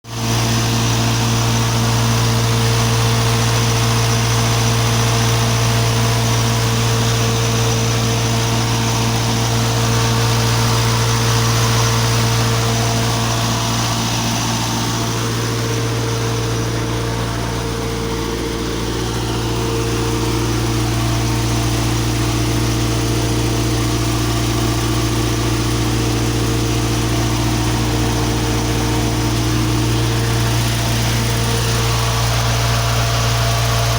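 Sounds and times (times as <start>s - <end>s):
diesel generator running: 0.0s - 33.9s.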